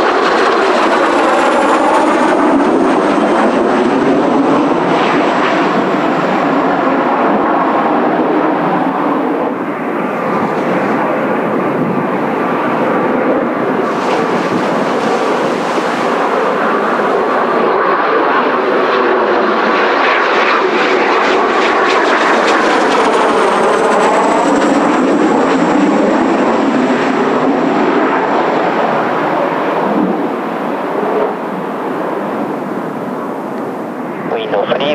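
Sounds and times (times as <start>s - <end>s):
jet engines running: 0.0s - 34.9s.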